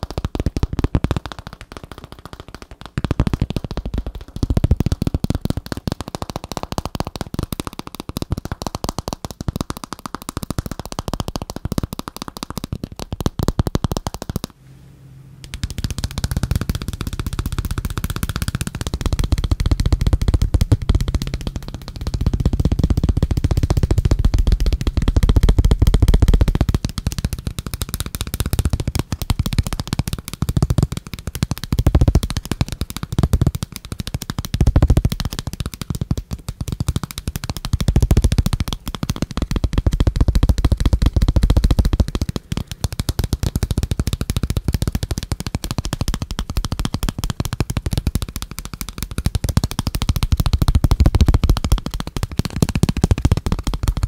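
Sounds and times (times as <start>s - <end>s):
fingernail tapping on plastic sheet: 0.0s - 14.6s, 15.5s - 54.0s
fingernail tapping on phone case: 0.2s - 14.5s, 15.5s - 54.0s.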